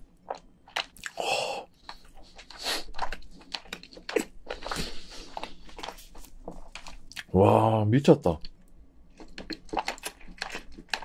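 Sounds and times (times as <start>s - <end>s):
wet chewing and mouth smacks: 0.1s - 7.3s, 8.4s - 11.0s.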